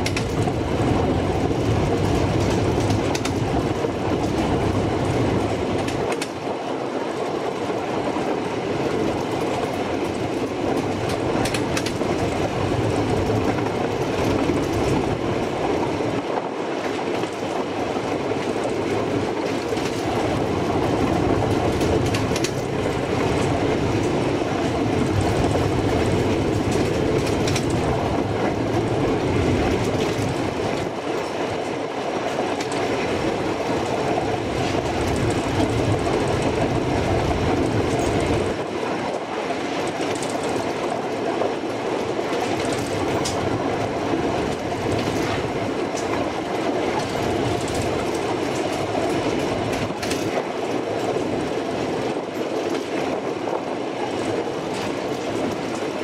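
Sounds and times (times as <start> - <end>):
faint clicks from rail joints: 0.0 - 0.6, 1.5 - 3.6, 5.7 - 6.5, 9.0 - 20.4, 21.0 - 29.0, 29.6 - 56.0
train wheels rumbling on rails: 0.0 - 56.0.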